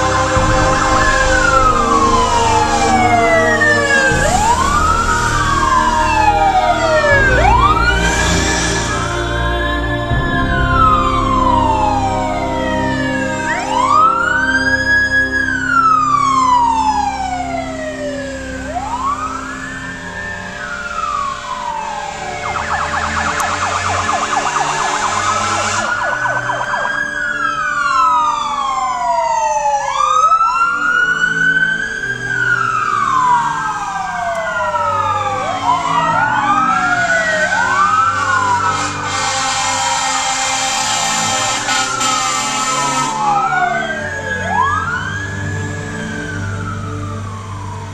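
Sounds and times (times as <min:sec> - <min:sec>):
sirens wailing: 0:00.0 - 0:47.9.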